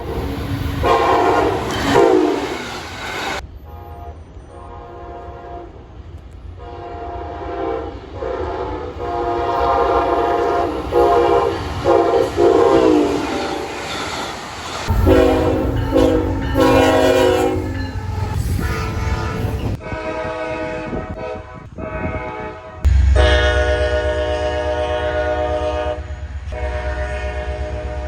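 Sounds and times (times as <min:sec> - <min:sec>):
train air horn blasts: 0:00.0 - 0:02.8, 0:03.6 - 0:05.8, 0:06.5 - 0:13.8, 0:14.8 - 0:28.0
train rumbling past: 0:00.0 - 0:28.0.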